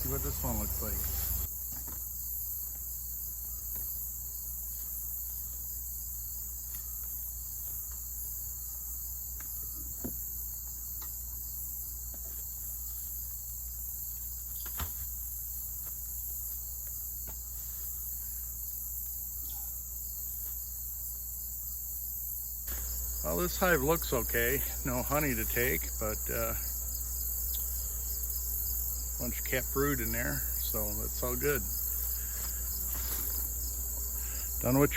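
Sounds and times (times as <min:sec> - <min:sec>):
crickets trilling: 0:00.0 - 0:34.9.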